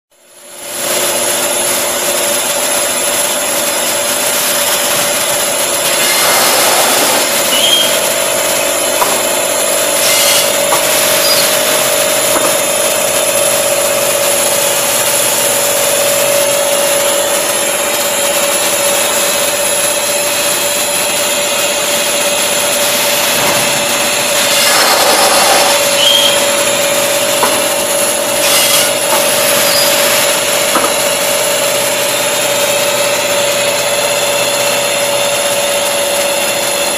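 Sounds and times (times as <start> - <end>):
machinery humming and whining: 0.2 - 36.9.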